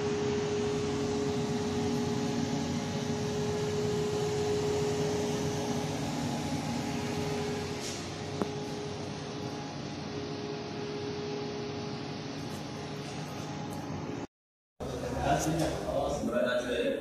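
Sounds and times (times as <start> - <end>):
steady hum tone: 0.0 - 16.8
cooling fans whirring: 0.0 - 17.0.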